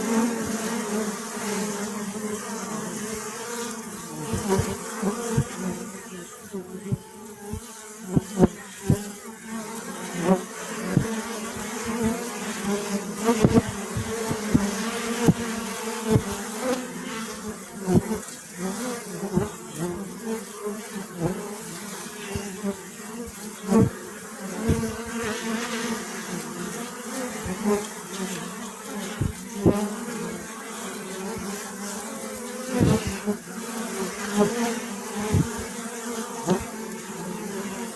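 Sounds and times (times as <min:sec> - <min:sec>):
bees buzzing: 0:00.0 - 0:37.9.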